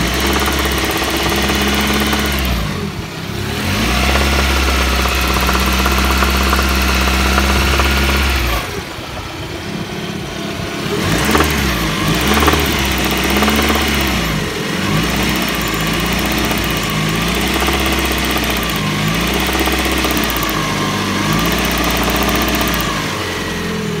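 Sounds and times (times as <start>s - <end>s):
engine knocking: 0.0s - 3.1s, 3.7s - 9.2s, 11.0s - 23.2s
car engine revving: 0.0s - 8.9s, 10.8s - 24.0s.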